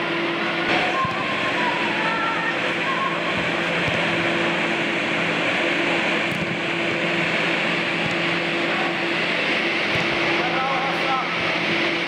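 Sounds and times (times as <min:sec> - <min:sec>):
inflation blowers humming: 0:00.0 - 0:12.0.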